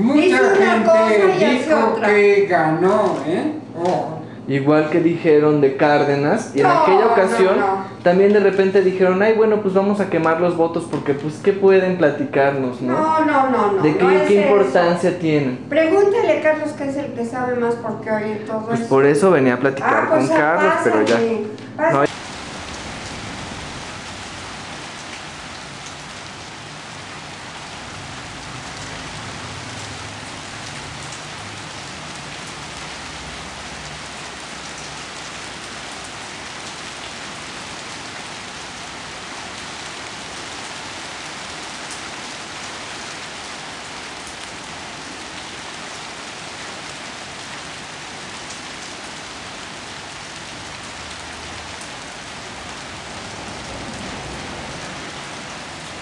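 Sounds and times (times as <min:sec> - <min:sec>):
steady rain falling: 0:00.0 - 0:17.9, 0:18.8 - 0:56.0.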